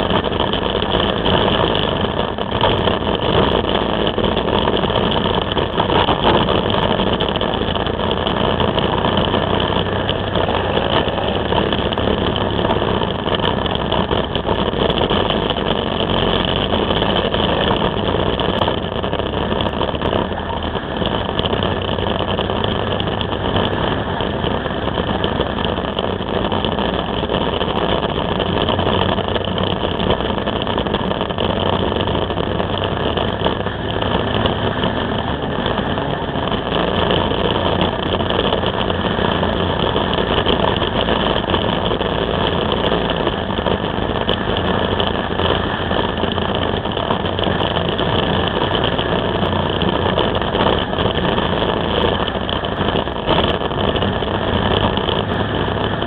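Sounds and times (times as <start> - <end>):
three-wheeler engine drone: 0.0 - 56.0
tyres on road: 0.0 - 56.0
wind rushing over camera: 0.0 - 56.0.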